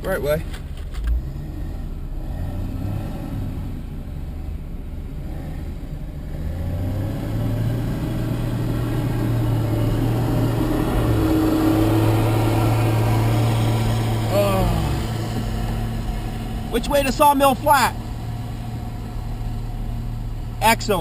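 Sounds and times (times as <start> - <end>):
car engine: 0.0 - 21.0
road noise on dirt road: 0.0 - 21.0.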